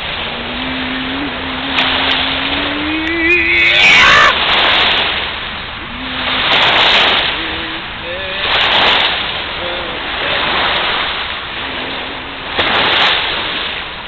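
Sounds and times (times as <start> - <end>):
waves washing against shore: 0.0 - 14.0.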